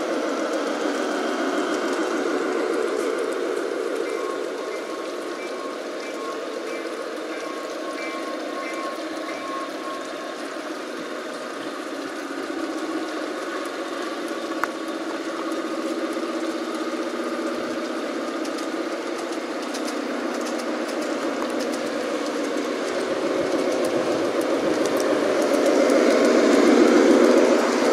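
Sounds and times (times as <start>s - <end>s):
model train motor and wheels: 0.0s - 27.9s.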